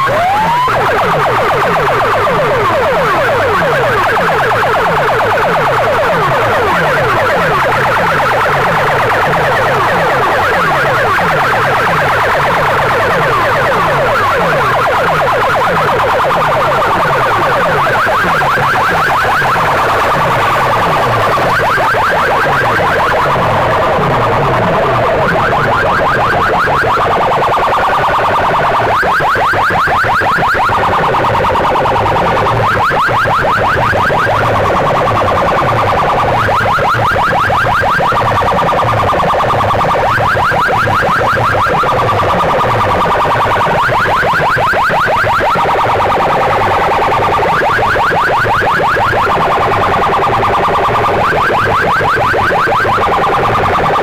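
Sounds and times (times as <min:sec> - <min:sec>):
alarm-like warble: 0:00.0 - 0:54.0.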